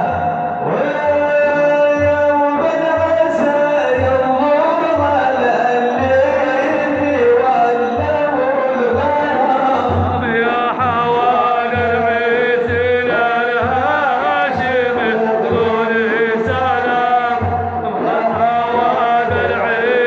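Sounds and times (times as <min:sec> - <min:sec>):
low drumbeat: 0:00.0 - 0:20.0
person chanting: 0:00.0 - 0:20.0.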